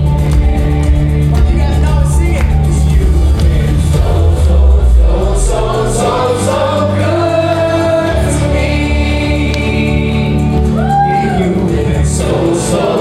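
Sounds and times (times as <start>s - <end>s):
band accompaniment with bass: 0.0s - 13.0s
group of voices singing: 0.0s - 13.0s.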